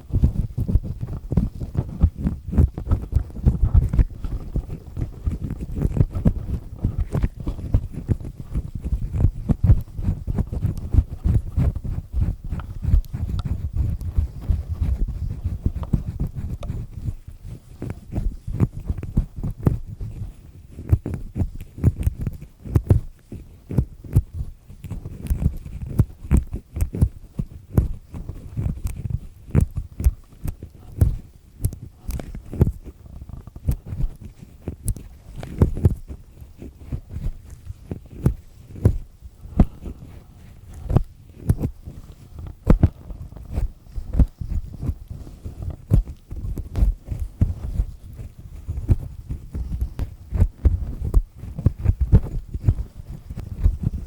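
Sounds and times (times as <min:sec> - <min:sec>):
earpick scratching inside ear: 0:00.0 - 0:54.0
low thumps and rubbing: 0:00.0 - 0:54.0.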